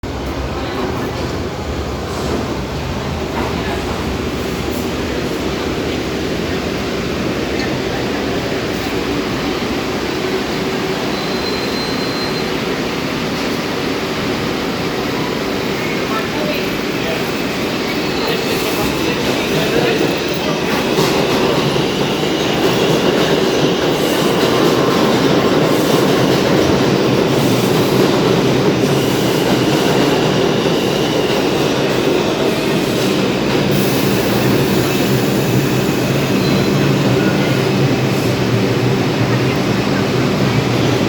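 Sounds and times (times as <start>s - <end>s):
subway train wheels clattering: 0.0s - 41.0s.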